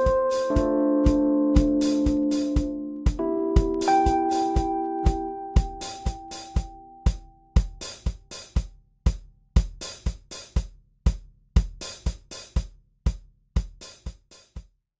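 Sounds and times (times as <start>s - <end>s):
hi-hat and cymbal hits: 0.0s - 4.7s, 5.6s - 14.7s
kick drum: 0.0s - 14.8s.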